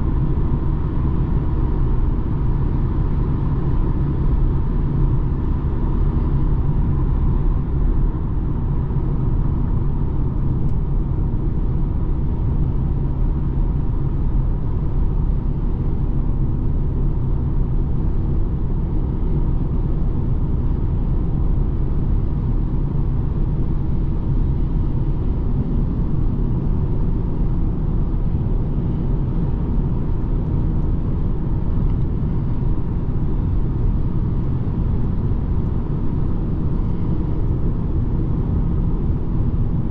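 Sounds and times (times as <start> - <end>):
diesel engine rumble: 0.0 - 39.9.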